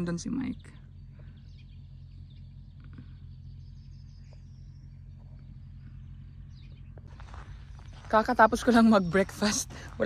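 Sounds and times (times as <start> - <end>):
faint bird chirps: 0.0 - 10.0
steady low hum: 0.0 - 10.0.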